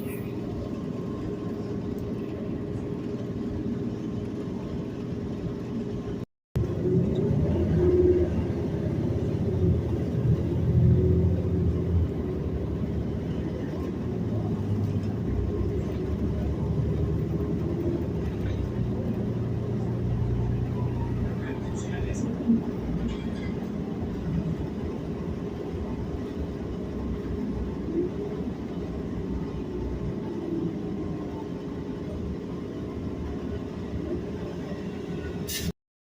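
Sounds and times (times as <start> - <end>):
bus engine and road rumble: 0.0 - 35.8.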